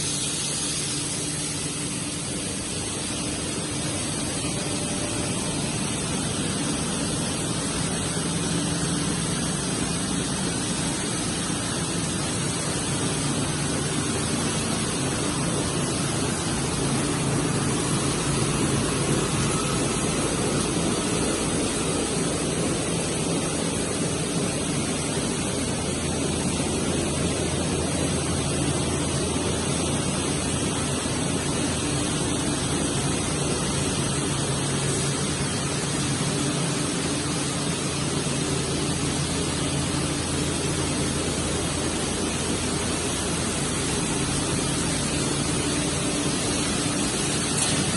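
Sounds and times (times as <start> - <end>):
bottle washing machine running: 0.0 - 47.9.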